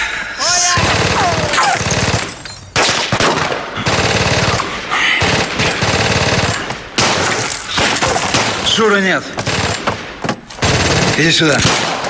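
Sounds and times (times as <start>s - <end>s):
machine-gun fire: 0.8s - 12.0s.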